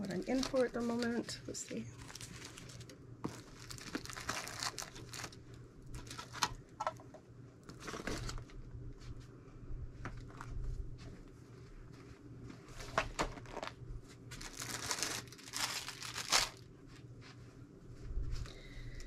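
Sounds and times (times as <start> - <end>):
rustling and crinkling of trim: 0.0 - 7.0, 7.7 - 9.3, 10.0 - 18.6.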